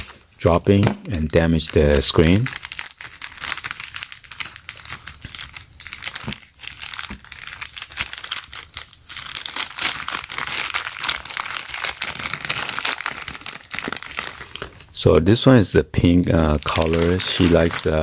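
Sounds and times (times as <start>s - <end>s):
plastic packaging crinkling: 0.0s - 15.0s, 16.0s - 18.0s.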